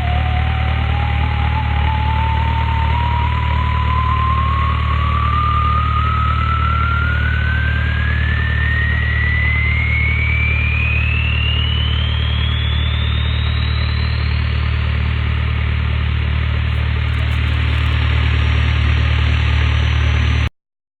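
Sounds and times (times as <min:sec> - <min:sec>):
diesel engine idling: 0:00.0 - 0:20.5
turbo whistle: 0:00.1 - 0:18.4.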